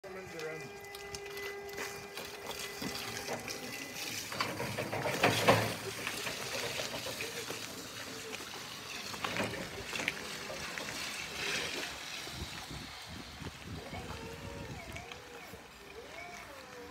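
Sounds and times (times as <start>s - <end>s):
tyres hissing on wet pavement: 0.0s - 16.9s.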